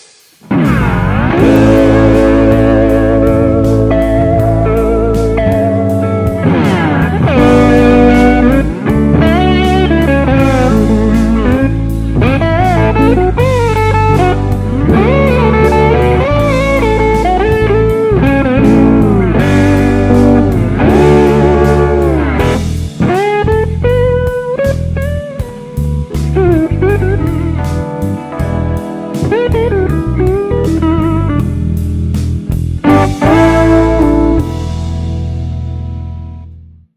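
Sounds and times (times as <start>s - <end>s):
steady drum beat: 0.0s - 35.0s
electric slide guitar riff: 0.4s - 36.4s
bass guitar: 0.4s - 36.9s.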